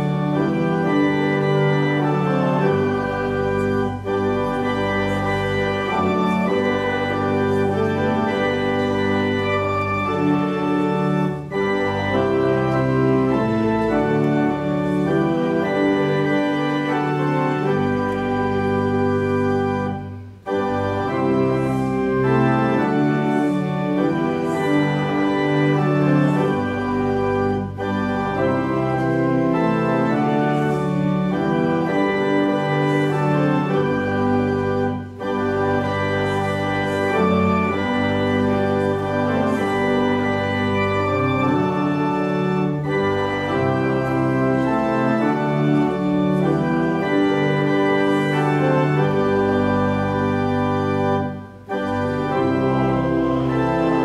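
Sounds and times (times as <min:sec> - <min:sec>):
church organ playing a hymn: 0:00.0 - 0:54.0.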